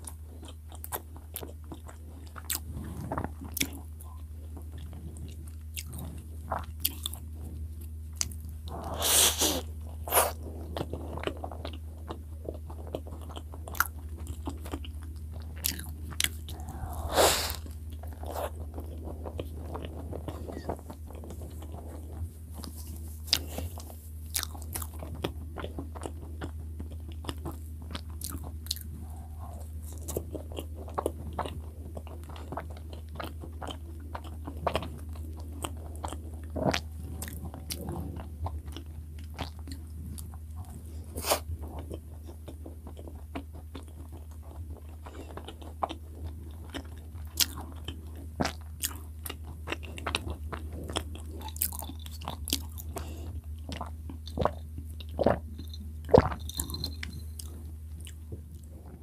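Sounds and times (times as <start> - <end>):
biting and chewing soft bread: 0.0 - 59.0.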